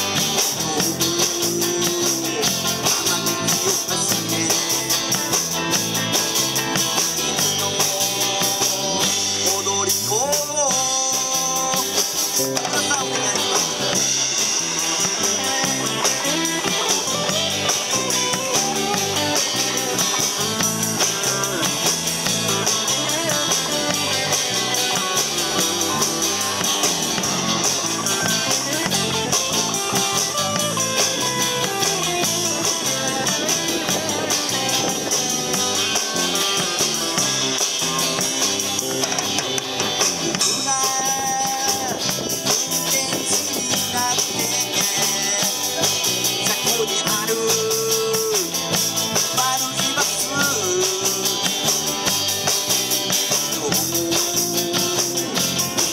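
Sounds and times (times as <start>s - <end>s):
drum kit beat: 0.0s - 55.9s
electric bass: 0.0s - 55.9s
electric guitars: 0.0s - 55.9s.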